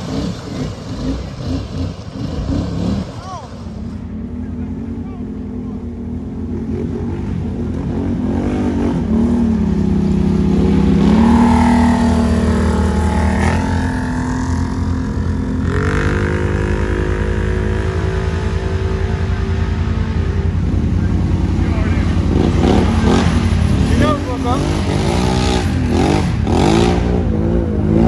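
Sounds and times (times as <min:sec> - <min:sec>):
atv engines revving: 0:00.0 - 0:28.0.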